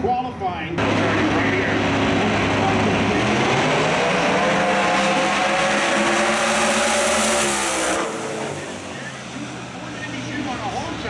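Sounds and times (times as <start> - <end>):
race car engines accelerating: 0.8 - 11.0.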